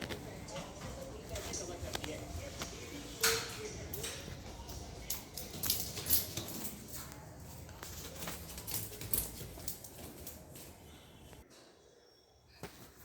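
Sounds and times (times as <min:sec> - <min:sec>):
footsteps: 0:00.0 - 0:11.4.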